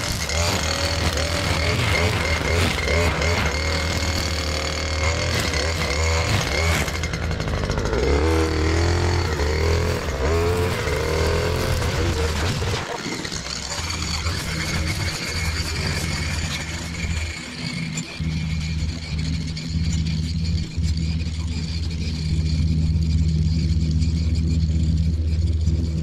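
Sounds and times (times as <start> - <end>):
mower engine drone: 0.0 - 26.0
thin steady whine: 0.0 - 26.0.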